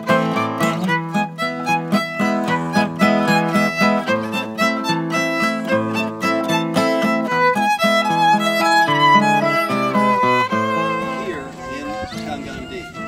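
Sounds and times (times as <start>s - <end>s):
acoustic guitar: 0.0s - 13.0s
violin: 0.0s - 13.0s.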